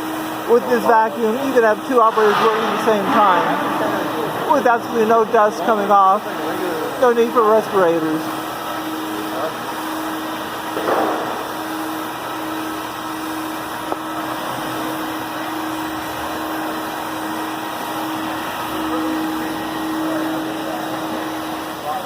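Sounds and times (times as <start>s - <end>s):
industrial vacuum running: 0.0s - 22.0s.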